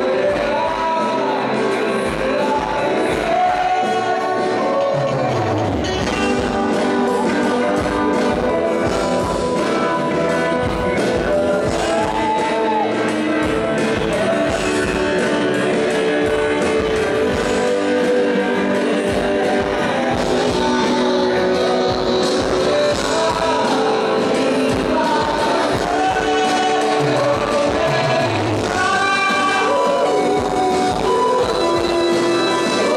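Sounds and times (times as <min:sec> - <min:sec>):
electric guitar: 0:00.0 - 0:32.9
person singing: 0:00.0 - 0:32.9
drum beat: 0:02.1 - 0:32.9.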